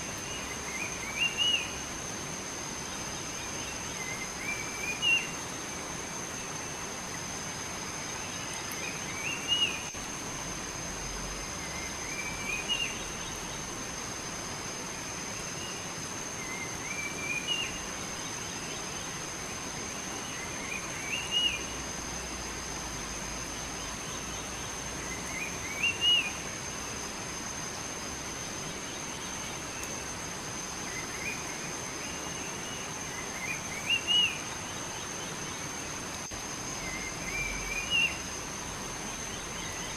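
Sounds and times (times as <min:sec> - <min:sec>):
songbird chirping: 0:00.0 - 0:01.9, 0:02.8 - 0:05.5, 0:06.3 - 0:10.0, 0:11.2 - 0:13.8, 0:15.4 - 0:21.8, 0:23.4 - 0:26.9, 0:28.3 - 0:39.9
outdoor hiss: 0:00.0 - 0:39.9.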